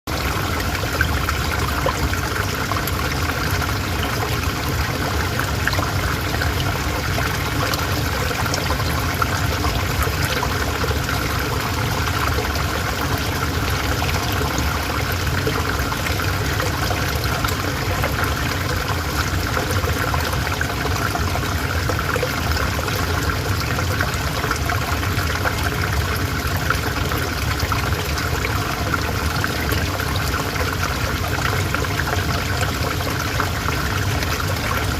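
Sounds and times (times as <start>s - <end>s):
river water flowing over stones: 0.1s - 34.9s.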